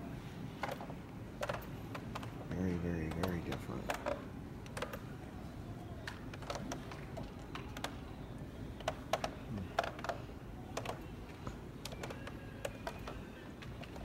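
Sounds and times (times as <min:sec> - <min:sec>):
murmur of large room: 0:00.0 - 0:14.0.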